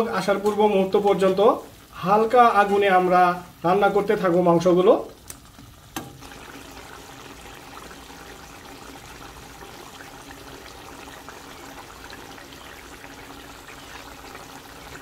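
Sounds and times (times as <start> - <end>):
pot of curry hissing and crackling: 0.2 - 15.0.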